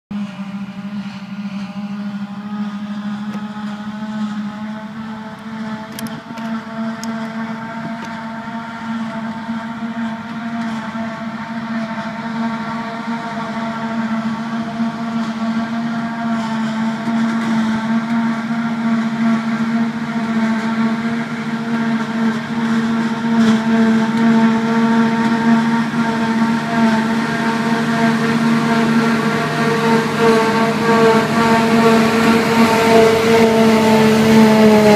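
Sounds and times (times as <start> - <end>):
forage harvester droning hum: 0.1 - 34.9.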